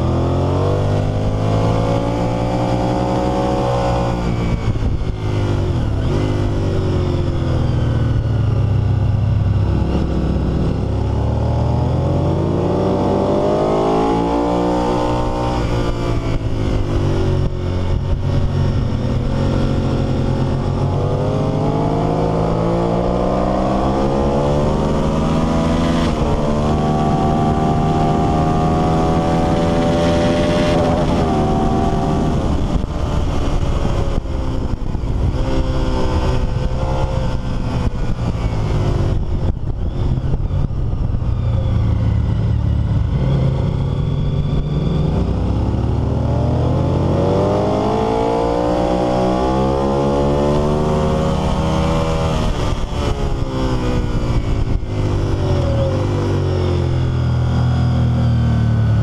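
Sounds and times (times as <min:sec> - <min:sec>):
motorcycle engine revving: 0:00.0 - 0:59.0
rush of wind: 0:00.0 - 0:59.0.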